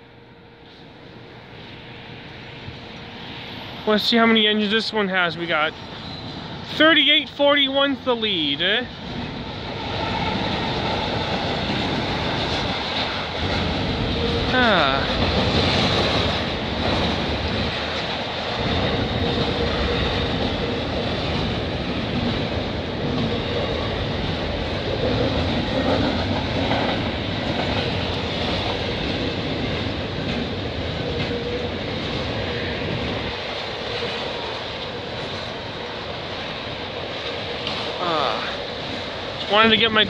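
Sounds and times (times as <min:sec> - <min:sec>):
steel wheels rumbling on rail: 0:00.0 - 0:40.0.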